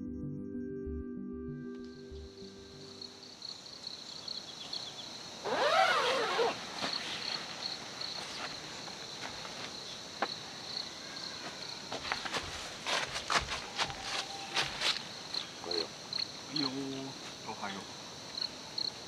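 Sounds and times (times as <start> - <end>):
insects chirping: 1.8 - 19.0.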